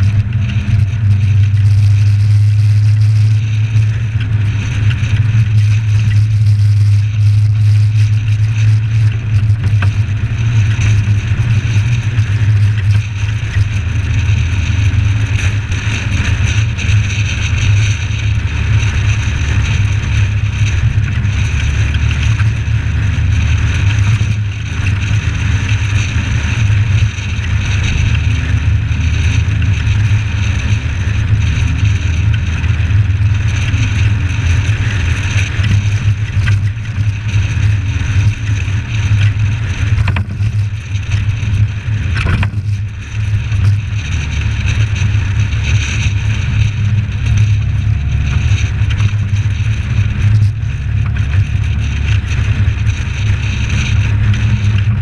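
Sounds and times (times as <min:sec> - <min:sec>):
muffled car engine and road drone: 0:00.0 - 0:55.0.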